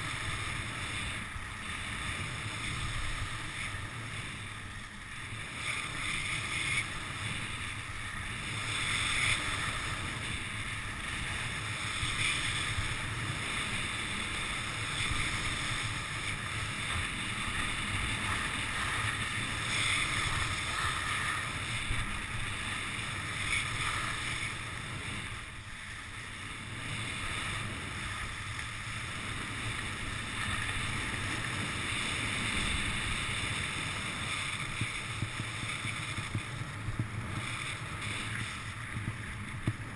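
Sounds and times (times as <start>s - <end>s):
skis scraping over snow: 0.0s - 39.9s
wind on microphone: 0.0s - 39.9s.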